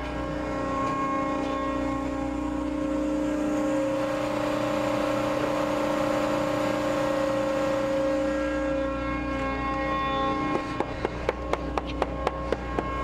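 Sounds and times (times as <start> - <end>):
mixing drive whine: 0.0 - 13.0
truck engine drone: 0.0 - 13.0.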